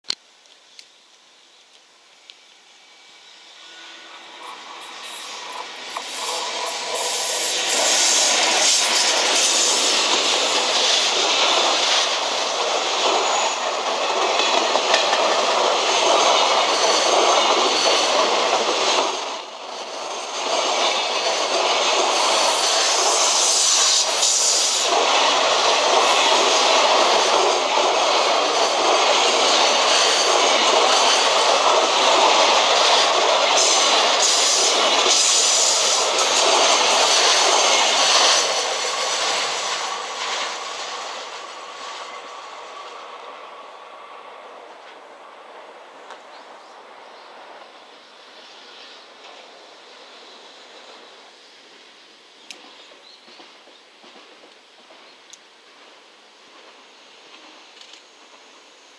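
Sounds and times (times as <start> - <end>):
train wheels on rails: 0.0 - 58.9.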